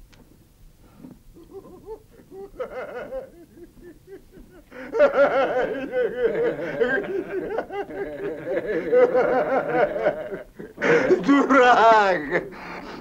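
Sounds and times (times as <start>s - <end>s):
men laughing: 1.4s - 13.0s.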